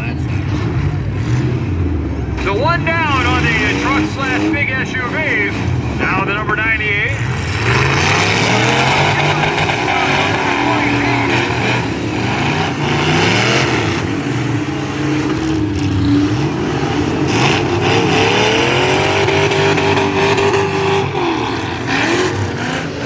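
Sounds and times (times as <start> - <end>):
truck engines revving hard: 0.0 - 23.0.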